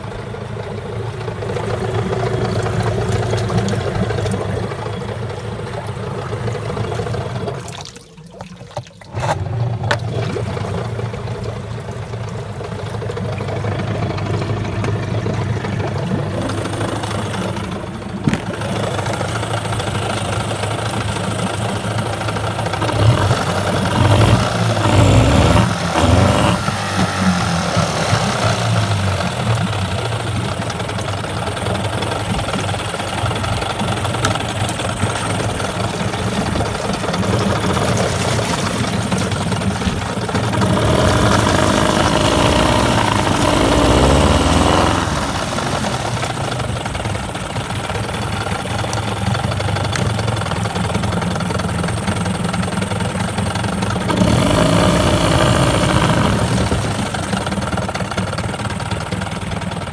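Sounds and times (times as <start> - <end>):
outboard motor idling and revving: 0.0 - 8.0, 8.6 - 59.9
propeller churning water: 0.0 - 59.9.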